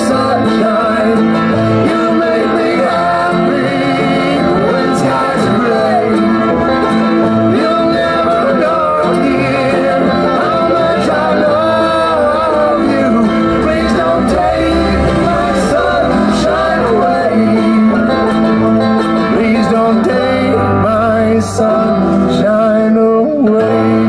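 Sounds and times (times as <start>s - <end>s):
country background music: 0.0s - 24.0s.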